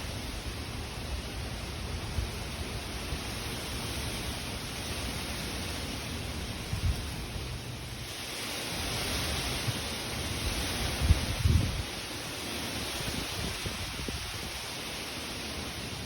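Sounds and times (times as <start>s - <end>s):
low rumbling gusts: 0.0s - 14.8s
strong wind through trees: 0.0s - 16.0s.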